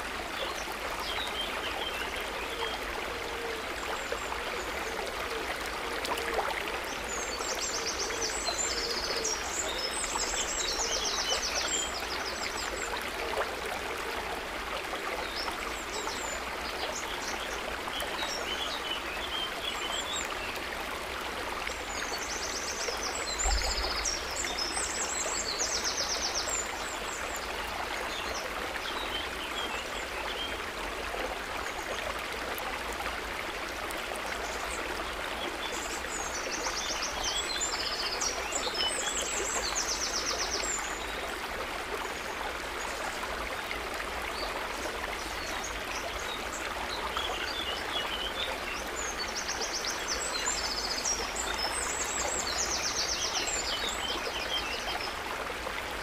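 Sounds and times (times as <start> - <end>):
water trickling and bubbling: 0.0 - 56.0.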